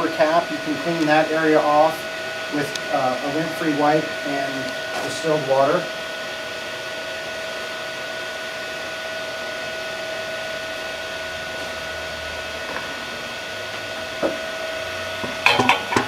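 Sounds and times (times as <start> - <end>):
printer fan whirring: 0.0 - 16.0
thin steady whine: 0.0 - 16.0.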